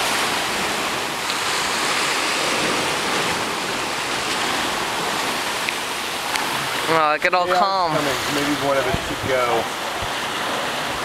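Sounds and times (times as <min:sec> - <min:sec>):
ocean surf against rocks: 0:00.0 - 0:11.0.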